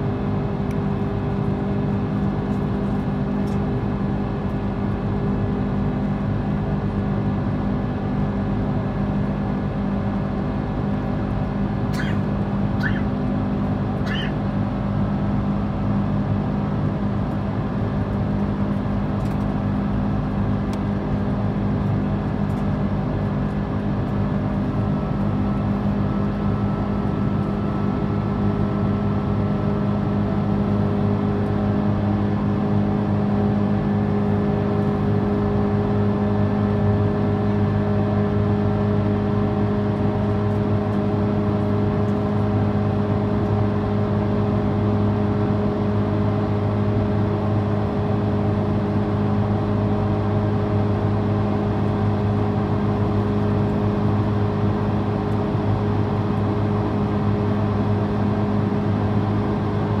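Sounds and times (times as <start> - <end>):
airplane cabin engine drone: 0.0 - 60.0.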